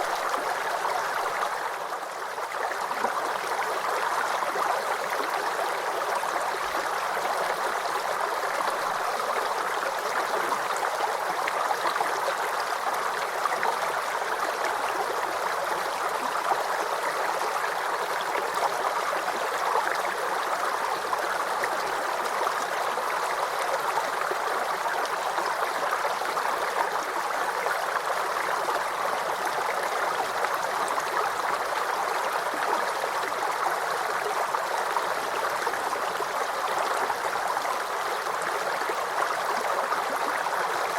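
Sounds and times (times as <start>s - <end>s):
brook babbling over stones: 0.0s - 40.9s.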